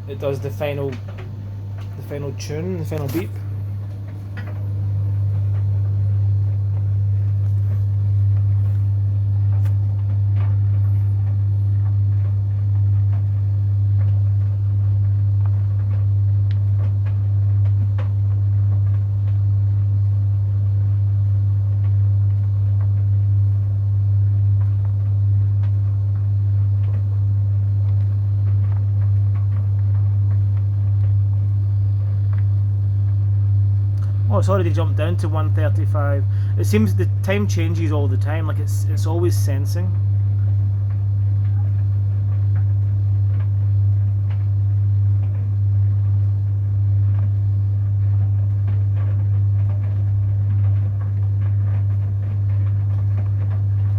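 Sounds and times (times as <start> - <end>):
tumble dryer humming: 0.0 - 53.9.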